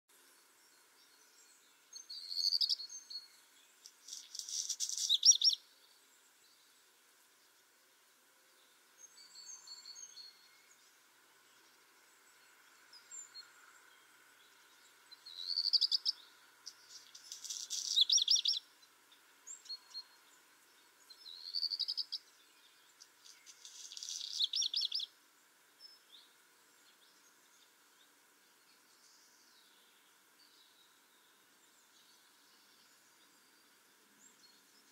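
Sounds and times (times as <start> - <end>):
bird singing trills: 0.2 - 6.8, 8.5 - 34.9
faint high bird calls: 0.7 - 6.8, 11.6 - 34.9.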